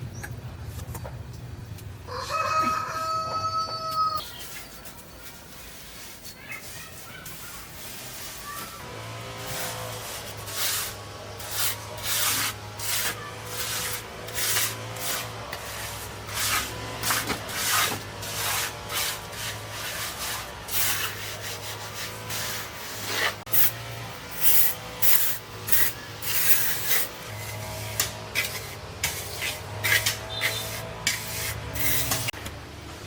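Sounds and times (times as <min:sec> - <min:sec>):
hand tool scraping hard surface: 0:04.2 - 0:32.4.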